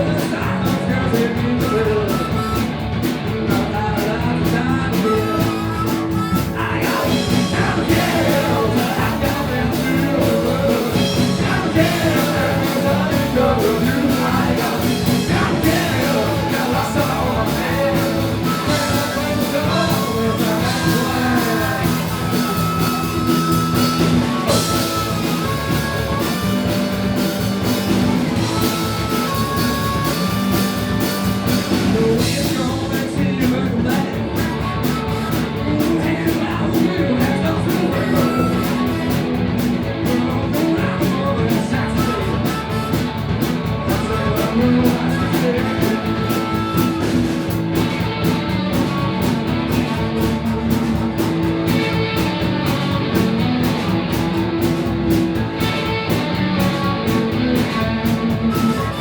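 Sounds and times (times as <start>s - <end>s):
person singing: 0.0s - 50.6s
bass guitar: 0.0s - 59.0s
drums: 0.0s - 59.0s
electric guitars: 0.0s - 59.0s.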